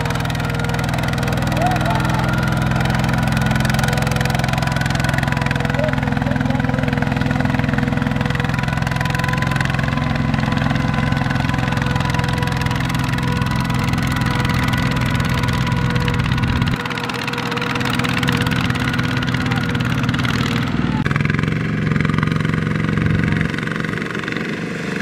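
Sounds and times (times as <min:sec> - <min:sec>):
diesel tractor engine droning: 0:00.0 - 0:25.0.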